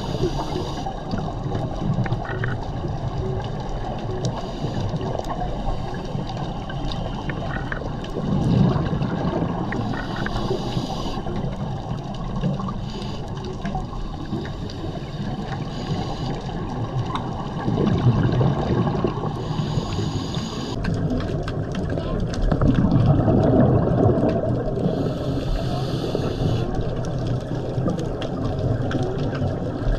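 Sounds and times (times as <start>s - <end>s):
underwater air bubbling: 0.0s - 29.9s.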